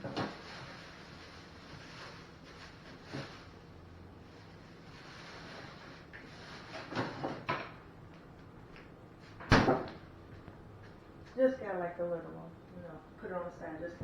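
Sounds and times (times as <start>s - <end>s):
low room noise: 0.0s - 14.0s.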